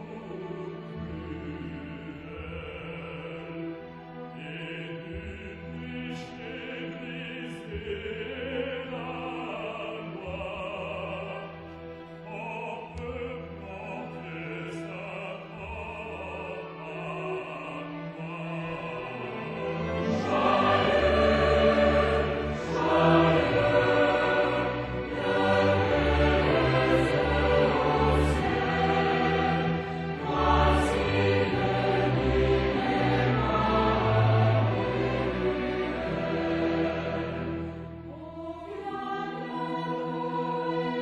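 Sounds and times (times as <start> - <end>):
choir singing: 0.0 - 41.0
string orchestra: 0.0 - 41.0.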